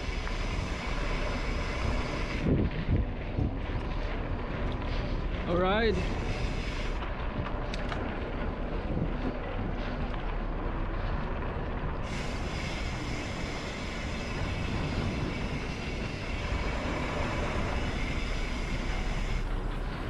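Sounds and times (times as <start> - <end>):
mountain bike rolling on dirt: 0.0 - 20.0.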